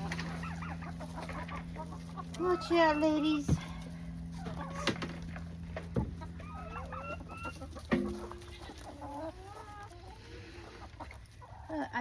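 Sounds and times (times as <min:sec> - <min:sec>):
hens clucking: 0:00.0 - 0:12.0
low steady hum: 0:00.0 - 0:12.0.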